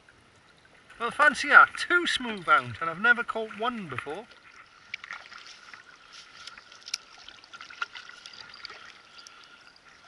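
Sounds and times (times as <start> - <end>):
water lapping against a hull: 0.0 - 10.0.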